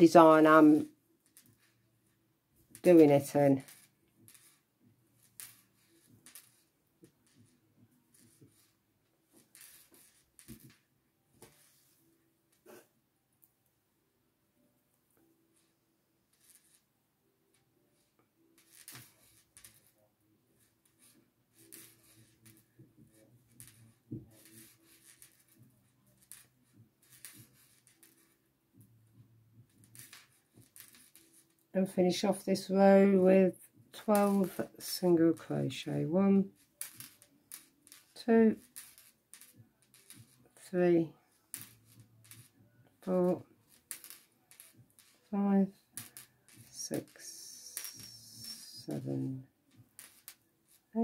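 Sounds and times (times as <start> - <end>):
crochet hook rustling yarn: 0.0 - 13.5, 14.6 - 51.0.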